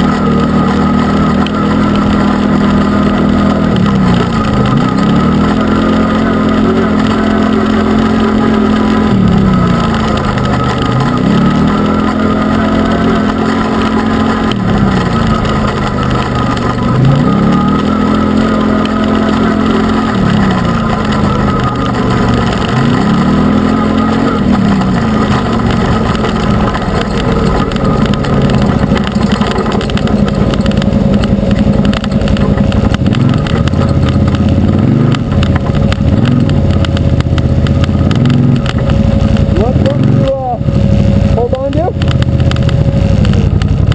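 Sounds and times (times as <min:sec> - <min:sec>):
utility vehicle engine revving: 0:00.0 - 0:43.9.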